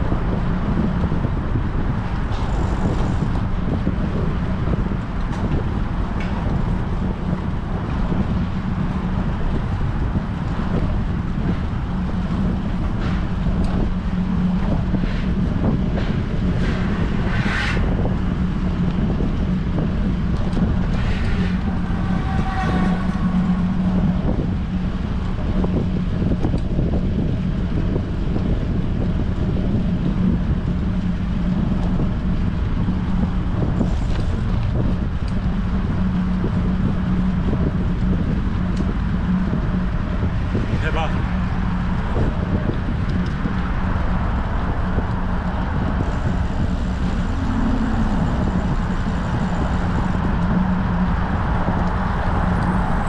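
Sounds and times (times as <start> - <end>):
constant hum: 0.0 - 53.0
wind buffeting microphone: 0.0 - 53.0.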